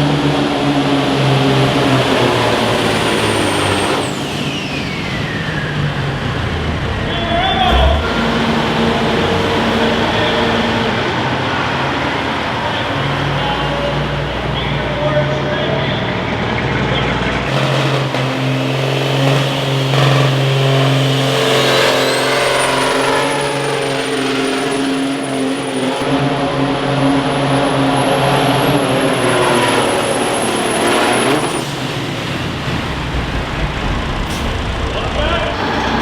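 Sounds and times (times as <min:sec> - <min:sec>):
engine running hard under load: 0:00.0 - 0:36.0.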